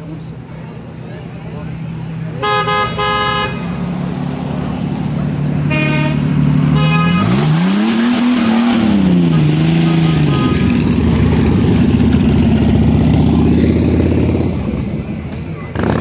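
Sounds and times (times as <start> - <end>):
car engine revving: 3.0 - 16.0.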